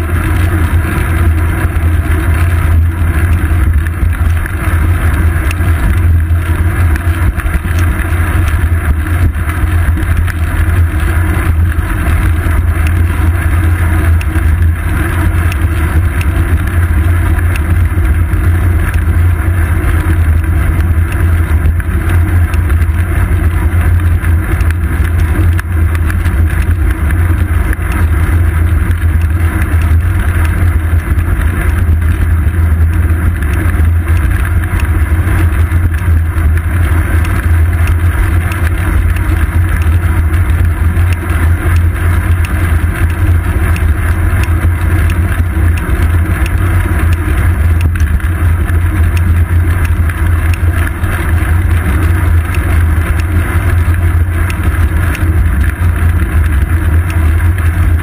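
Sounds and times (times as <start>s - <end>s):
road vibration rumble: 0.0s - 58.0s.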